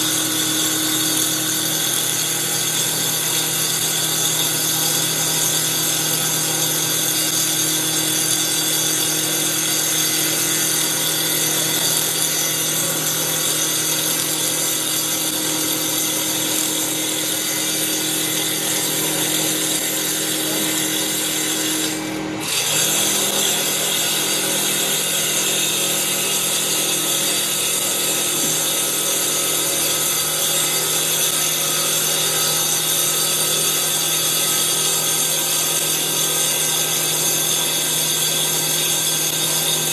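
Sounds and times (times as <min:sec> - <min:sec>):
lathe saw blade cutting wood: 0:00.0 - 0:39.9.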